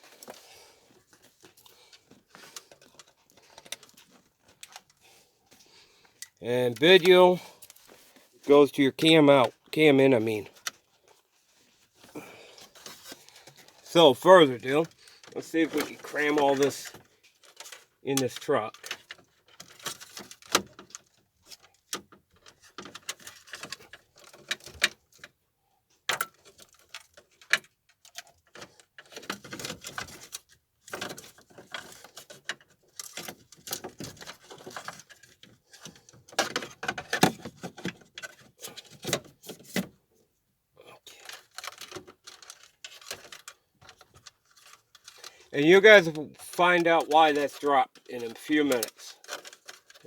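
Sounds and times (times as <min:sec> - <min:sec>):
plastic parts rustling and knocking: 0:00.0 - 0:40.3, 0:41.0 - 0:50.0.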